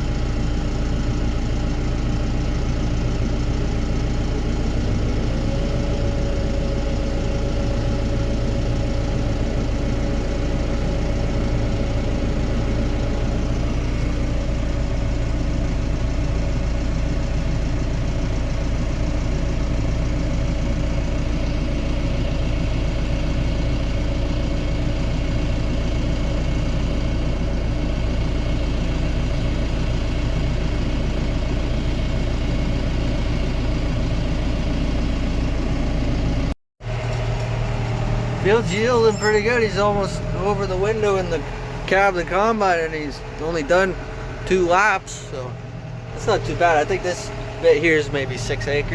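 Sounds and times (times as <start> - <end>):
diesel engine running with whine: 0.0 - 48.9.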